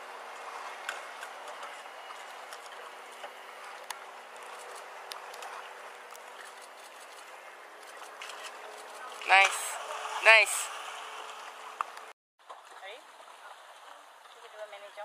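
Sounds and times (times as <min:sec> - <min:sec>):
water wash: 0:00.0 - 0:15.0.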